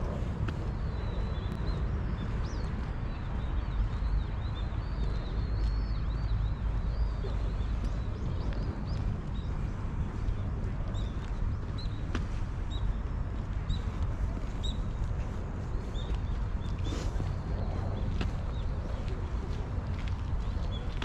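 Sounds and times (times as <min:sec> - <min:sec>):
low rumble: 0:00.0 - 0:21.0
small birds chirping: 0:00.0 - 0:21.0.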